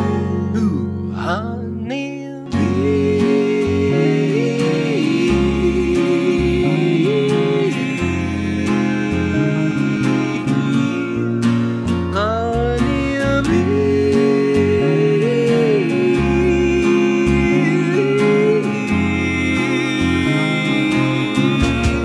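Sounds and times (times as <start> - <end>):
song with guitar: 0.0 - 22.0.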